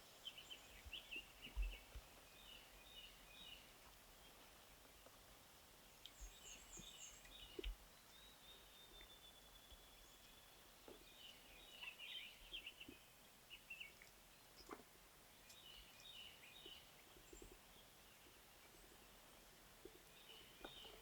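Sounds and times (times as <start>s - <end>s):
songbirds chirping and twittering: 0.0s - 21.0s.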